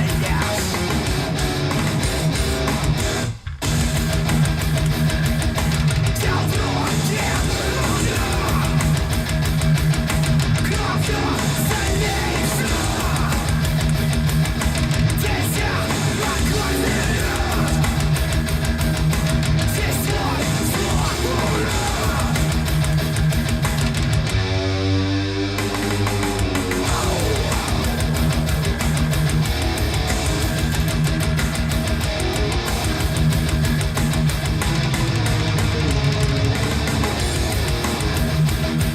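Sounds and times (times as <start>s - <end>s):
heavy rock music with electric guitar: 0.0s - 38.9s.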